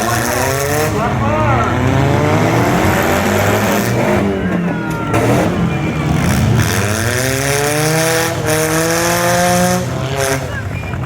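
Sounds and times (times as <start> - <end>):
car engines running: 0.0 - 11.0
engine revving up: 0.0 - 11.0.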